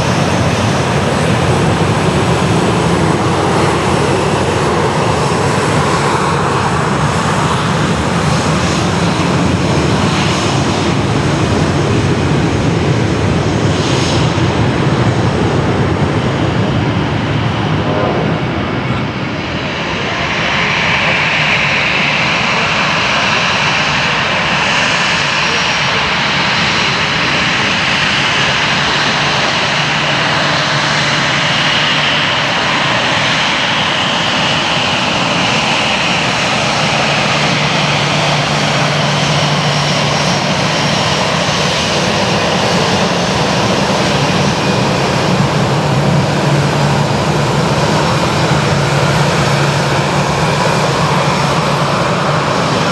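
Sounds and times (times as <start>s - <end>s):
jet engines roaring: 0.0s - 52.9s.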